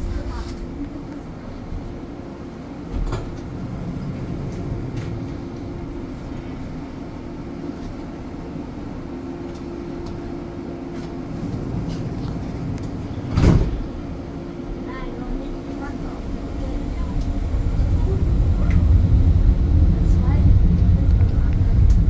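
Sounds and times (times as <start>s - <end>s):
monorail car rumbling: 0.0s - 22.0s.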